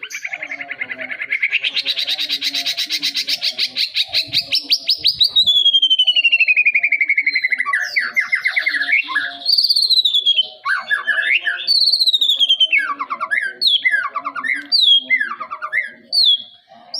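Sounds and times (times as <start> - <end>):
songbird singing: 0.0 - 16.9.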